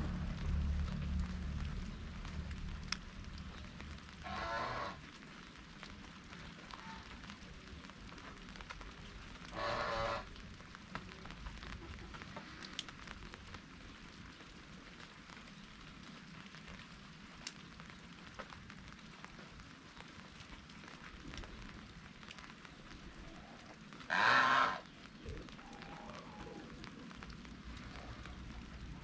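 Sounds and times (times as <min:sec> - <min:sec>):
light drizzle dripping: 0:00.0 - 0:29.0.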